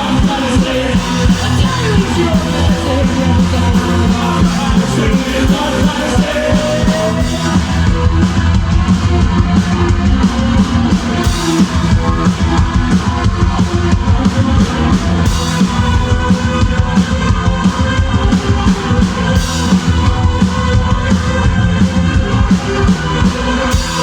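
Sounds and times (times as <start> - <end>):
drum kit driving beat: 0.0 - 24.0
rock band playing: 0.0 - 24.0.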